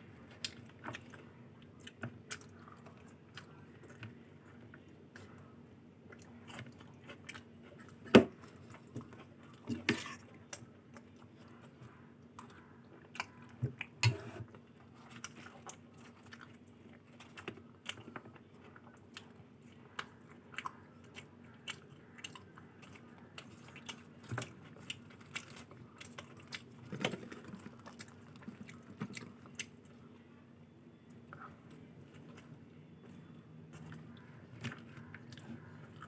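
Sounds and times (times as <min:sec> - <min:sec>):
person chewing food: 0:00.0 - 0:30.2, 0:30.9 - 0:36.0
faint steady hum: 0:00.0 - 0:36.0.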